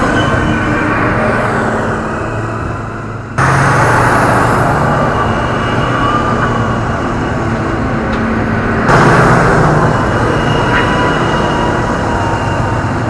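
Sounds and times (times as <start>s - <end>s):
diesel engines working hard: 0.0s - 13.0s
dirt and tyre noise: 0.0s - 13.0s.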